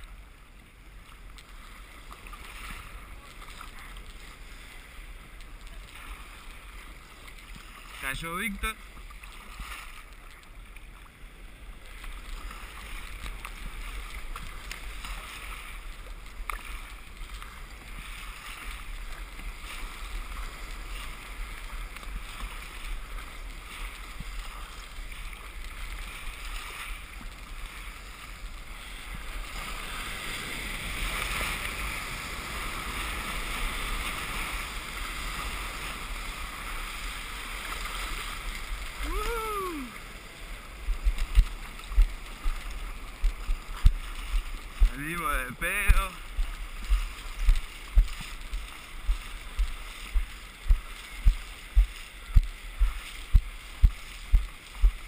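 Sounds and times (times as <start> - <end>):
whitewater rushing around kayak: 0.0 - 55.0.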